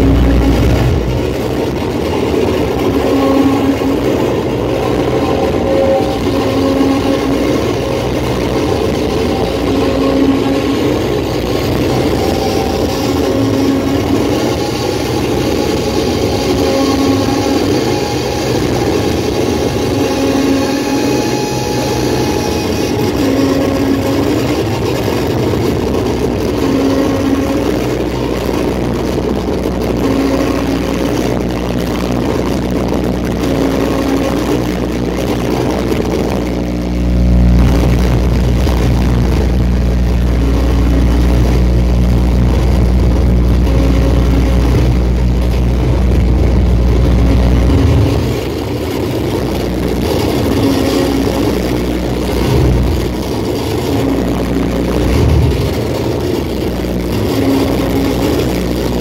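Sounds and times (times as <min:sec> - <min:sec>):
deep low rumble: 0:00.0 - 0:59.0
droning electronic noise music: 0:00.0 - 0:59.0.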